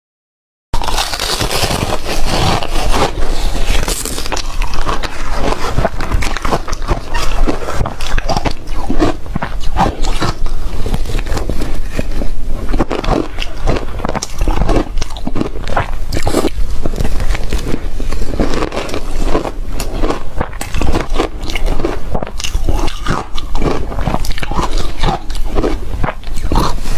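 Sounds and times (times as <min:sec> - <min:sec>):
ice being chewed with crunches: 0:00.8 - 0:26.9.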